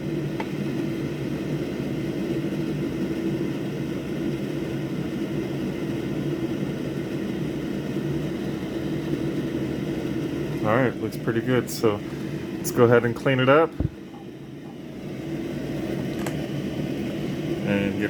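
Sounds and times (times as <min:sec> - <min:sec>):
fan whirring: 0:00.0 - 0:18.0.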